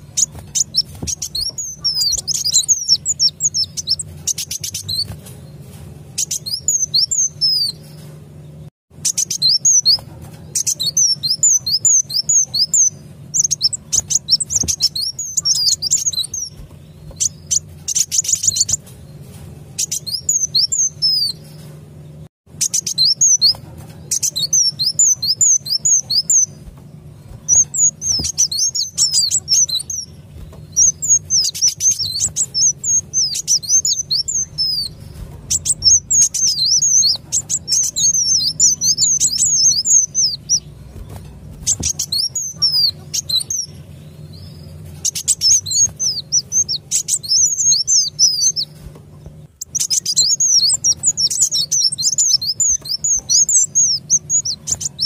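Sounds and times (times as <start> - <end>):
faint low hum: 0.0 - 55.0
rapid high bird chirps: 0.0 - 55.0.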